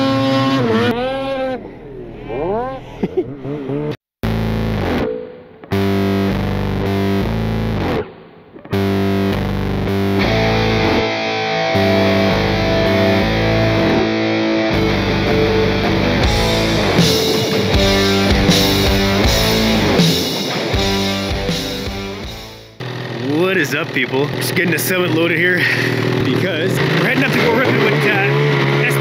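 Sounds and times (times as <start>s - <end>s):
distorted electric guitar chords: 0.0s - 2.4s, 4.2s - 29.0s.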